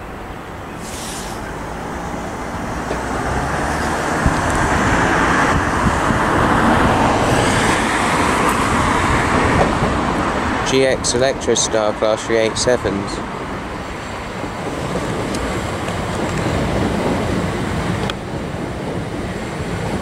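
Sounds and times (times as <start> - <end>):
electric train approaching: 0.0 - 20.0.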